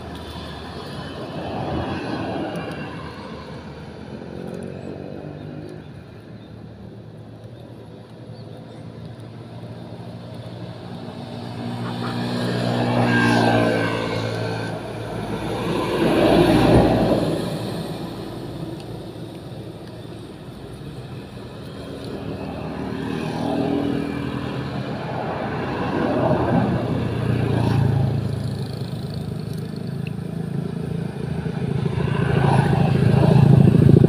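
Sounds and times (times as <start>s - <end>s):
vehicles passing by: 0.0s - 34.0s.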